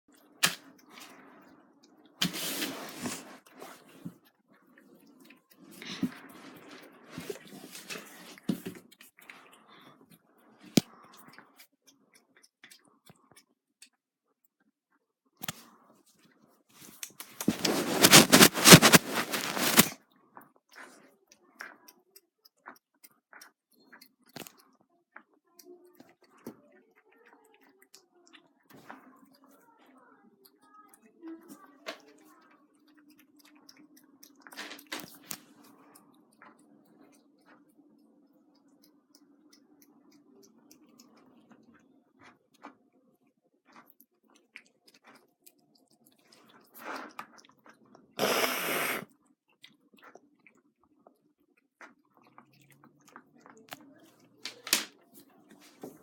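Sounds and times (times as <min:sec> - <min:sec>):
cats crunching food: 0:00.2 - 0:14.7, 0:15.4 - 0:29.2, 0:30.7 - 0:55.1.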